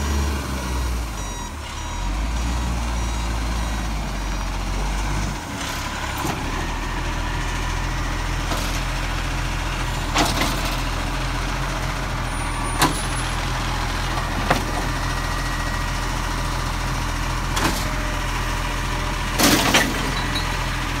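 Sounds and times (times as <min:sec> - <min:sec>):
garbage truck engine running: 0:00.0 - 0:21.0.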